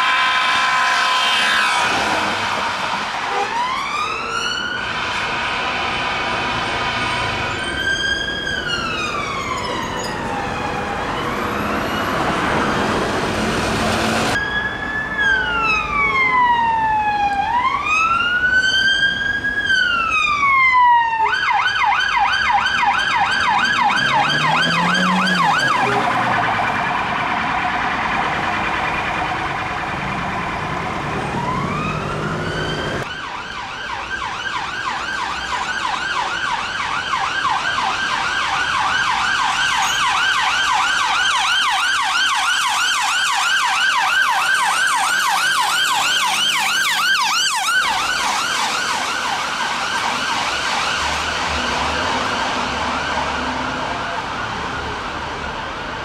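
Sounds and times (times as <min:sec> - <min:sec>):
emergency sirens wailing and yelping: 0:00.0 - 0:56.0.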